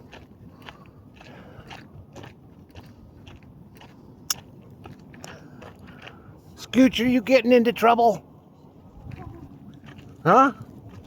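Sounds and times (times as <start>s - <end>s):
footsteps crunching on gravel: 0.0s - 7.3s, 9.0s - 11.0s.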